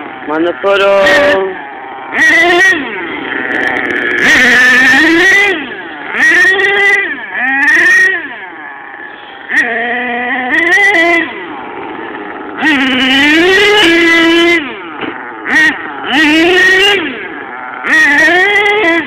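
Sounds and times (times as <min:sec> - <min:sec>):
radio-controlled car motor whining: 0:00.0 - 0:19.0.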